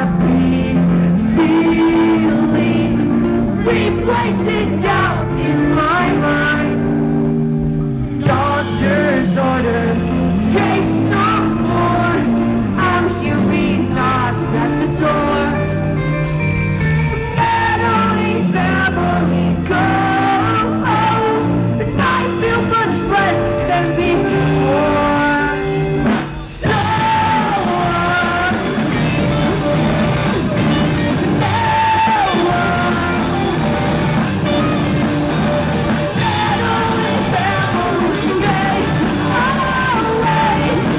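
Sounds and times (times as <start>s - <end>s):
man singing lead vocal: 0.0s - 16.1s, 17.1s - 40.9s
live rock band: 0.0s - 40.9s.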